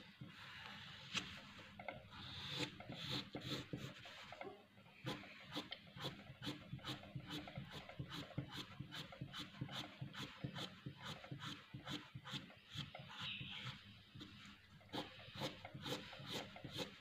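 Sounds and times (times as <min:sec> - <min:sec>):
pencil scratching on paper: 0:02.2 - 0:04.4, 0:05.0 - 0:17.0.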